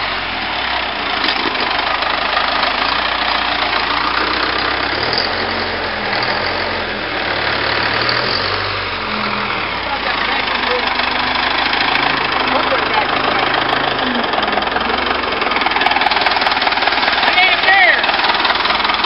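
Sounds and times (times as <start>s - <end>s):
wheel loader engine running: 0.0s - 19.0s.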